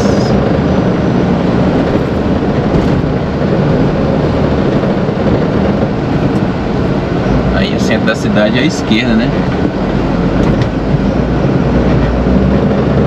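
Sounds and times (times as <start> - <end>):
road noise: 0.0 - 13.0
truck diesel engine: 0.0 - 13.0.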